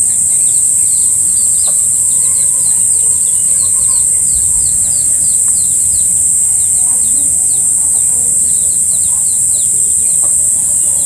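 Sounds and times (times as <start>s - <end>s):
bird chirps: 0.0s - 11.0s
faint low wavering calls: 0.0s - 11.0s
high-pitched insect drone: 0.0s - 11.0s.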